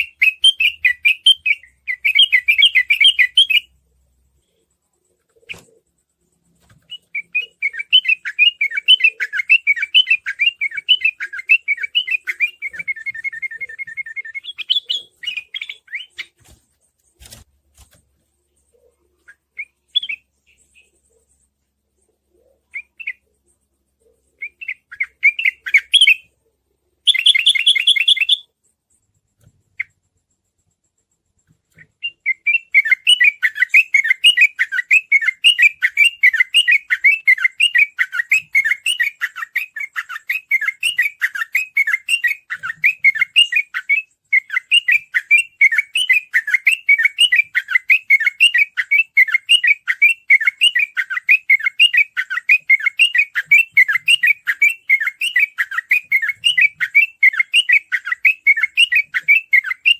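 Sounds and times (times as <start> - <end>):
bird singing: 0.0 - 16.5, 18.4 - 28.6, 29.4 - 59.9
rapid run of bird chirps: 0.0 - 59.9.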